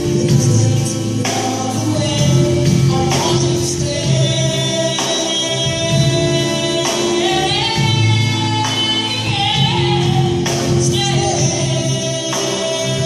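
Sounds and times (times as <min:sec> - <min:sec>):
live band playing: 0:00.0 - 0:13.0
woman singing lead: 0:00.0 - 0:13.0.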